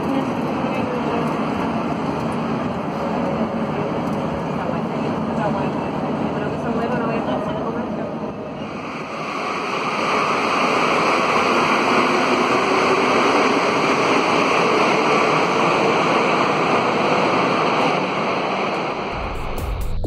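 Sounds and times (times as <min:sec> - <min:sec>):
metro train pulling out: 0:00.0 - 0:20.0.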